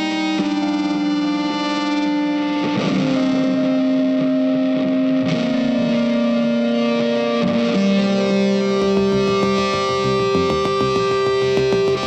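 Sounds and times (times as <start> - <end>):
sustained electric guitar notes: 0.4 - 12.0.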